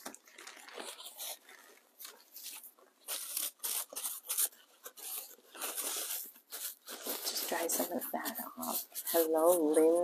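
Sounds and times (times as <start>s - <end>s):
paper towel crinkling: 0.0s - 10.0s.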